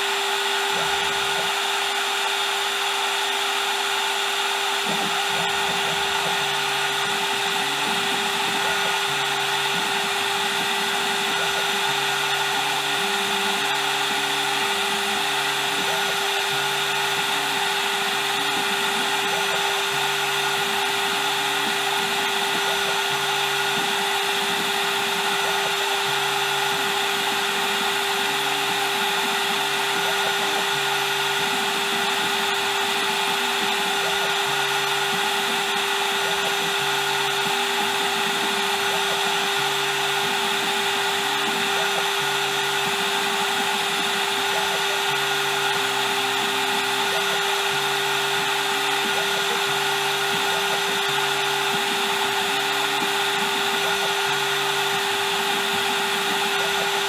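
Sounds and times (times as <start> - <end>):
engraving machine spindle whine: 0.0 - 57.0.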